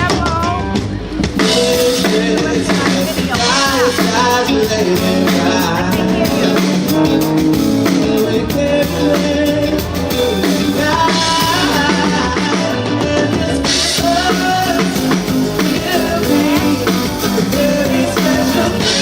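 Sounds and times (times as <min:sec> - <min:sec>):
drum kit: 0:00.0 - 0:19.0
guitar: 0:00.0 - 0:19.0
person singing: 0:00.0 - 0:19.0.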